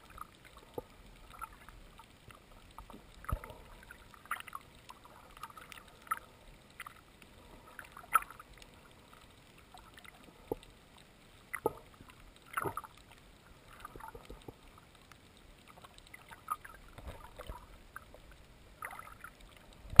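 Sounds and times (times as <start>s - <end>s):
underwater low hiss: 0.0s - 20.0s.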